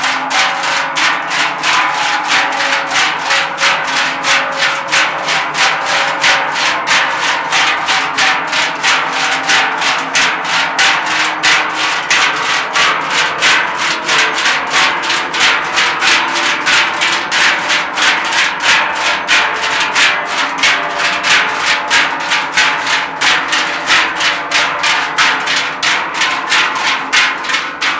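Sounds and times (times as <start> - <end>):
large cowbells clanging: 0.0 - 27.9.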